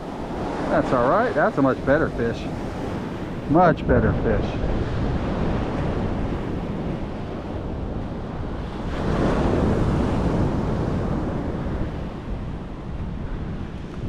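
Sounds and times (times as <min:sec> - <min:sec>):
ocean surf washing on beach: 0:00.0 - 0:14.0
wind buffeting microphone: 0:00.0 - 0:14.0.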